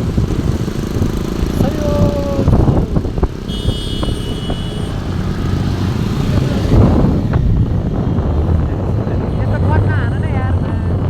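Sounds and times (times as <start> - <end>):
vehicle engine rumble: 0.0 - 11.0
wind: 0.0 - 11.0.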